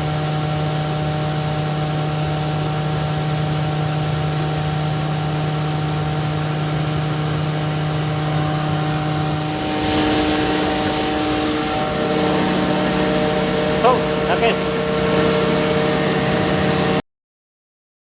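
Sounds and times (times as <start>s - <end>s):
grinding mill humming and hissing: 0.0s - 17.0s.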